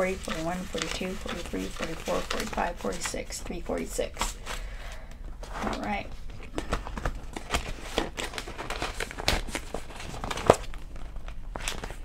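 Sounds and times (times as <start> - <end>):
plastic pages crinkling and rustling: 0.0 - 4.7, 5.4 - 12.0.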